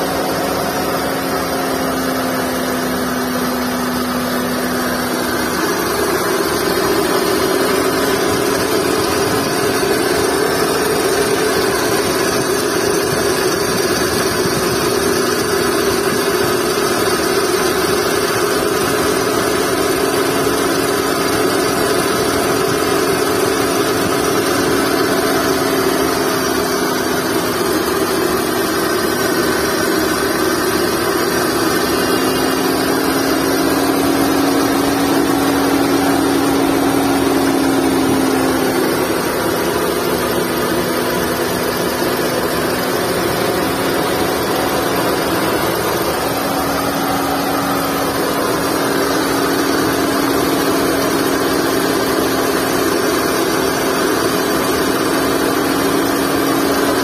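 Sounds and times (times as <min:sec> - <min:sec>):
car engine idling: 0:00.0 - 0:57.0
drive belt droning: 0:00.0 - 0:57.0.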